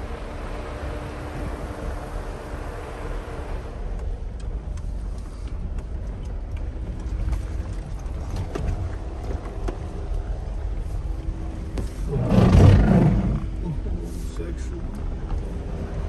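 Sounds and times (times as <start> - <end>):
engine and drivetrain rumble: 0.0 - 16.0.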